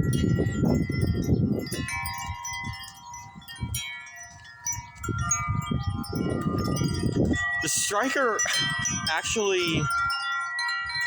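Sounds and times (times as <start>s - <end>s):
wind chimes ringing: 0.0s - 11.0s
wind rumbling on microphone: 0.0s - 11.0s.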